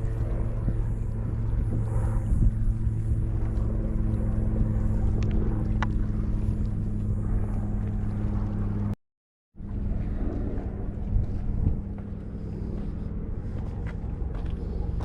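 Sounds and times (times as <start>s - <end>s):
engine droning: 0.0s - 9.0s, 9.6s - 15.0s.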